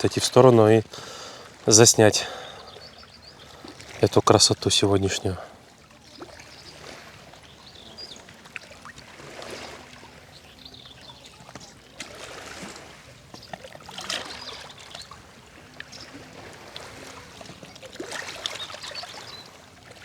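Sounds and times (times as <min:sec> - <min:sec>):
small waves washing ashore: 0:00.0 - 0:20.0.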